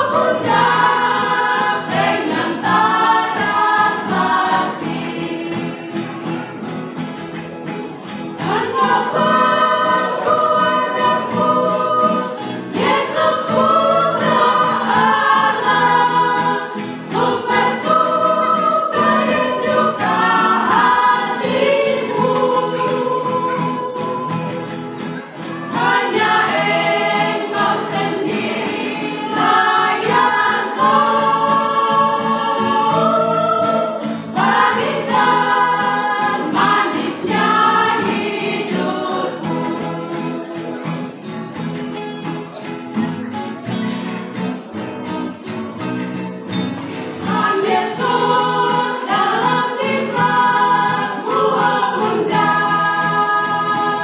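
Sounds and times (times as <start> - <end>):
women's vocal group singing: 0.0 - 6.8, 8.4 - 41.4, 46.9 - 54.0.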